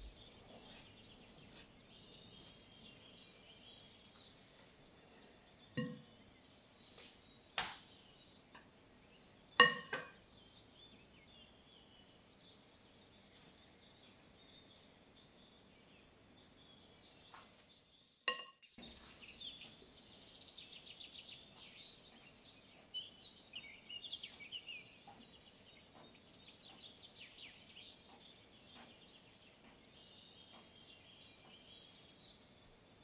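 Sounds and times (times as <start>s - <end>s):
faint birdsong: 0.0s - 33.0s.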